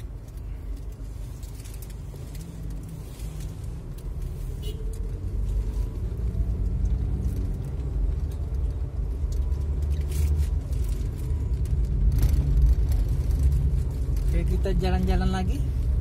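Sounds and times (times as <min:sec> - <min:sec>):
car interior engine and road rumble: 0:00.0 - 0:16.0.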